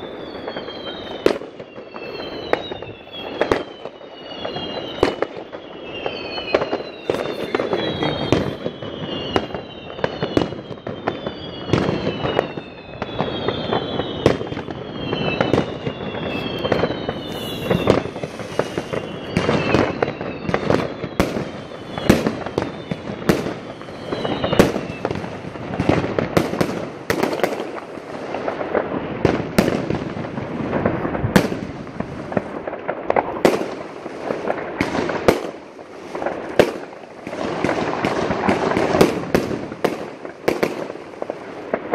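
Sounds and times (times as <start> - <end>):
falling firework whistle: 0.0 - 41.9
fireworks bangs and crackling: 0.0 - 41.9.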